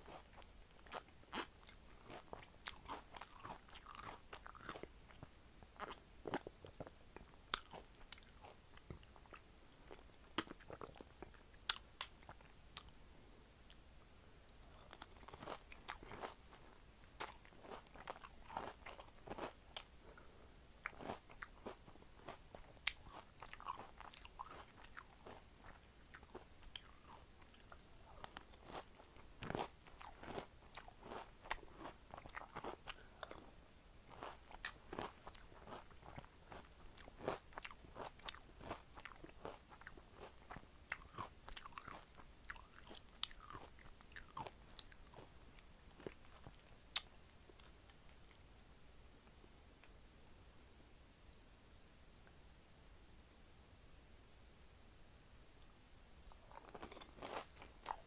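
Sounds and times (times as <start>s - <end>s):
crunching and chewing cereal: 0.0s - 13.0s, 14.4s - 48.5s, 55.2s - 58.0s.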